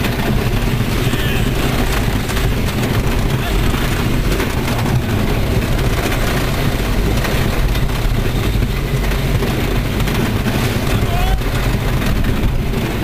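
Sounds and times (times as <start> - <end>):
roller coaster train rumbling: 0.0 - 13.0
rushing air: 0.0 - 13.0.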